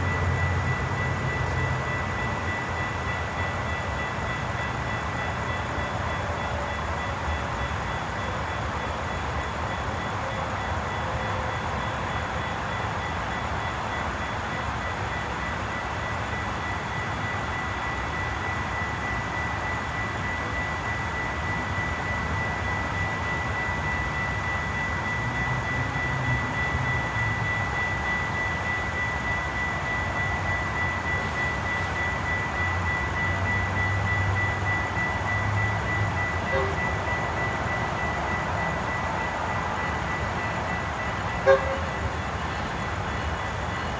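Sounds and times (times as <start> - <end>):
steady high ringing tone: 0.0 - 43.9
train rumbling past: 0.0 - 43.9.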